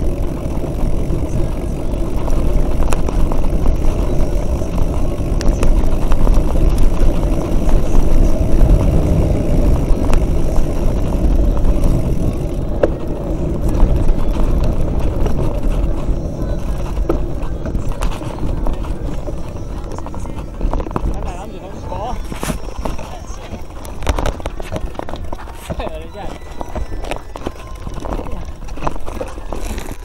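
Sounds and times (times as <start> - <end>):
bike clicks and rattles: 0.0 - 30.0
knobby tyres on rough trail: 0.0 - 30.0
wind rumble: 0.0 - 30.0.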